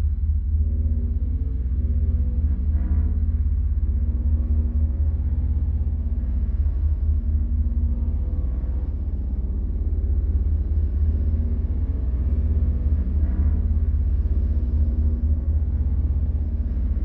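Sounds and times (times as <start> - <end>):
deep low rumble drone: 0.0 - 17.0.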